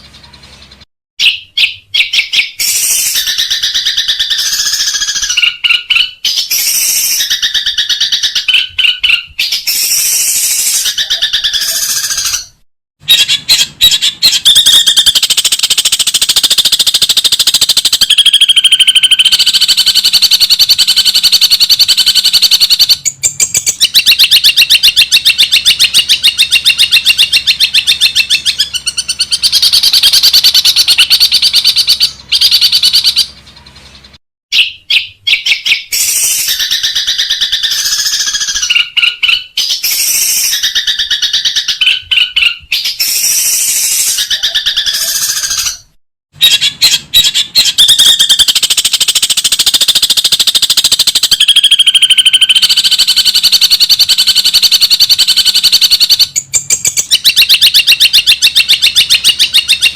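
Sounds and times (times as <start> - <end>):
bird rapid chattering song: 0.0 - 59.9.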